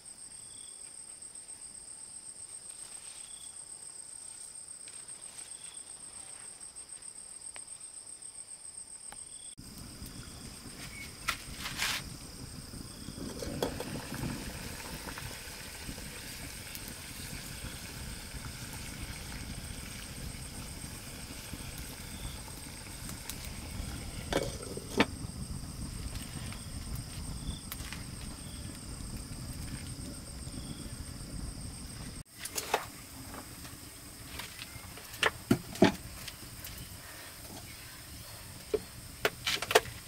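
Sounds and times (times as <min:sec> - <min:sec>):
high insect drone: 0:00.0 - 0:32.2.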